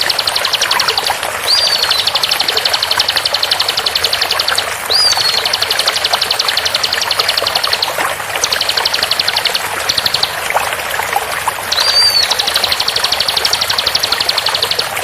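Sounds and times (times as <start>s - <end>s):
bird song with rapid high notes: 0.0s - 10.4s, 11.7s - 15.0s
flowing water: 0.0s - 15.0s.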